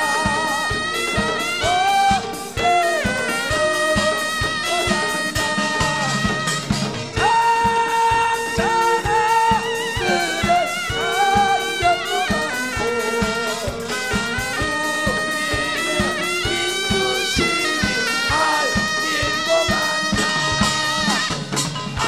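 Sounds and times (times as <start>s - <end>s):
live band playing upbeat music: 0.0s - 22.0s
steady drum beat: 0.0s - 22.0s
wavering lead melody: 0.0s - 22.0s.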